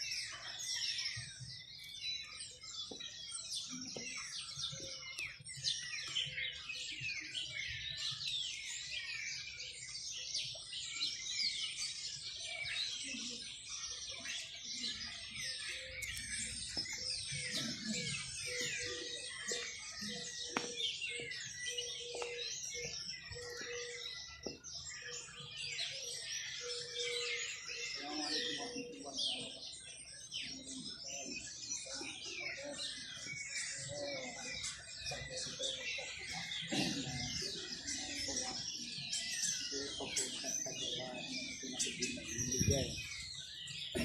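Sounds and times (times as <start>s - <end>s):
small birds chirping chorus: 0.0s - 44.0s.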